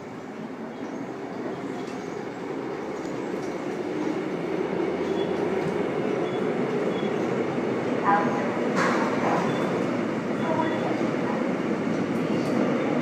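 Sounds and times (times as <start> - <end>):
electric train rumbling in tunnel: 0.0 - 13.0.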